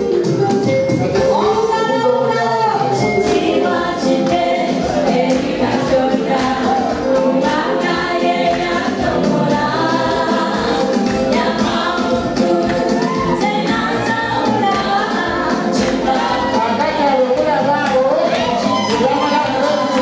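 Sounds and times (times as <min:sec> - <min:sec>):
choir singing gospel: 0:01.1 - 0:20.0.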